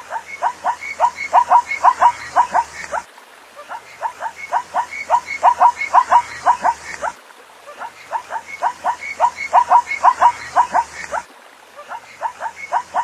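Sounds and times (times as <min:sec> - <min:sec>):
zebra bark-like yelps: 0:00.0 - 0:13.0.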